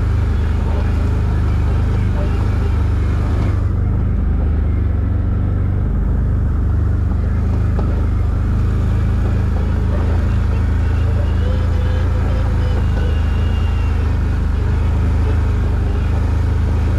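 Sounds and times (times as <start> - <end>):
engine hiss: 0.0 - 16.9
engine running steadily: 0.0 - 16.9.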